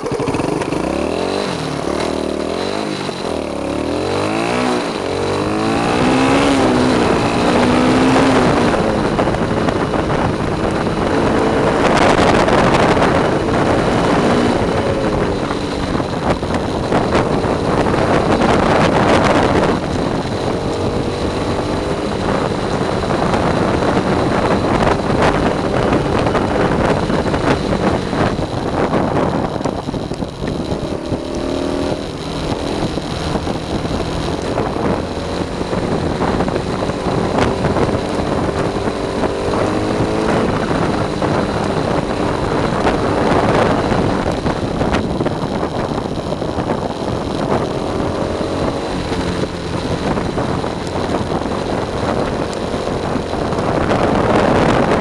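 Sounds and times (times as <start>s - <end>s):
tyres rumbling on asphalt: 0.0s - 55.0s
wind rushing over microphone: 0.0s - 55.0s.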